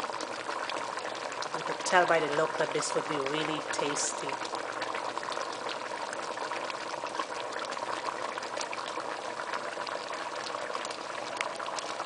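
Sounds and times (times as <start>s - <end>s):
curry bubbling in a pot: 0.0s - 12.0s.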